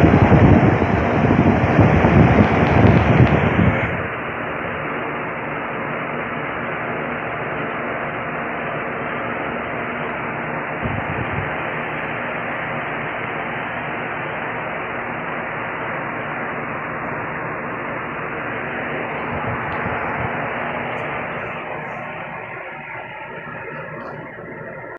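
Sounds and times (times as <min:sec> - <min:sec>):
faint low hum: 0:00.0 - 0:24.9
static-like hiss: 0:00.0 - 0:24.9.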